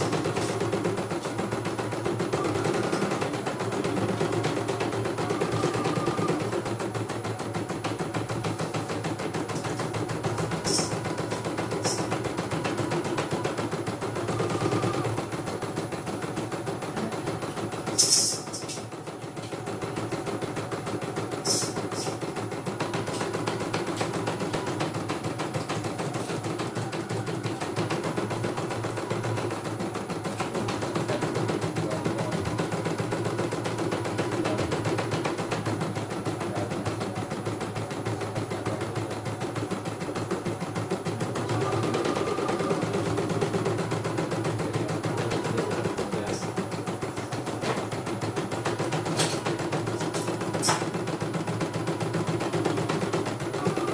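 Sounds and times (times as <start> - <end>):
embroidery machine clatter: 0.0 - 53.9.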